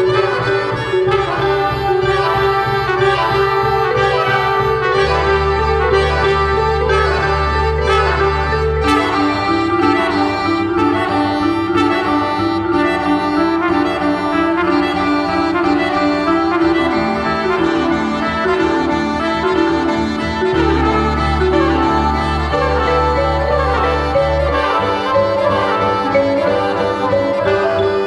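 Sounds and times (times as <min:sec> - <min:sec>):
button accordion: 0:00.0 - 0:28.0.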